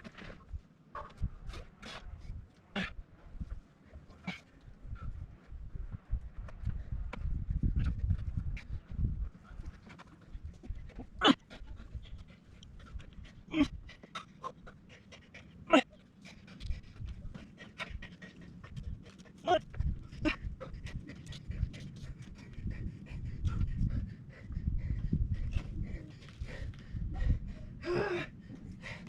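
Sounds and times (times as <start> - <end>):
rapid panting breaths: 1.4 - 29.0.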